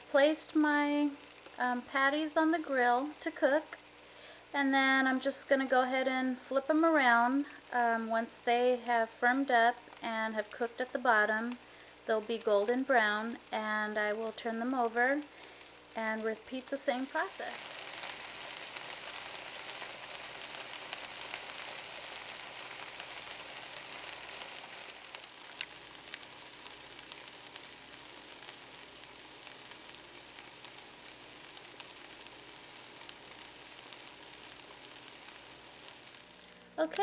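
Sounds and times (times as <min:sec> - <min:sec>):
fish patties sizzling on a griddle: 0:00.0 - 0:37.0
oil popping and crackling: 0:00.0 - 0:37.0.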